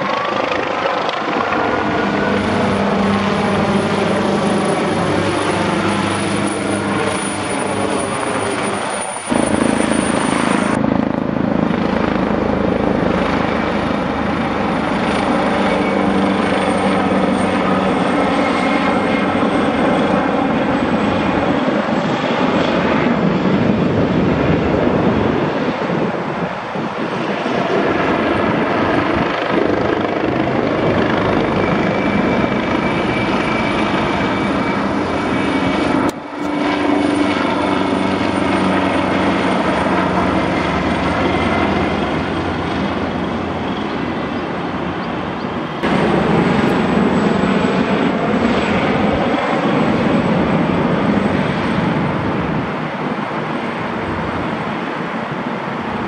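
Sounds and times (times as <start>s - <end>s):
helicopter flying overhead: 0.0s - 56.0s.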